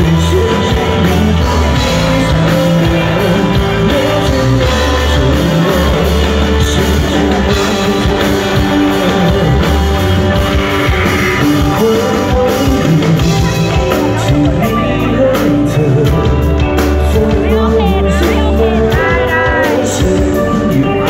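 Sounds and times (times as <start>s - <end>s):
bass guitar: 0.0s - 21.0s
drum kit: 0.0s - 21.0s
electric guitar: 0.0s - 21.0s.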